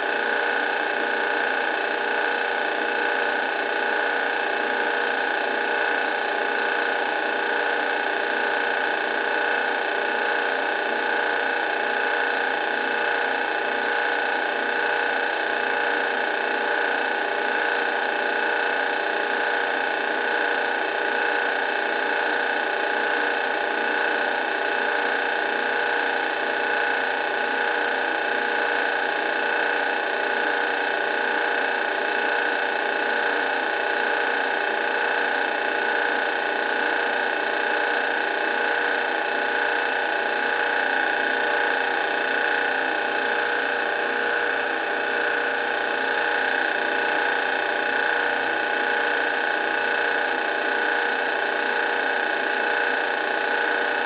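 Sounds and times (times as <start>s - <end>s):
drill press whining: 0.0s - 54.0s.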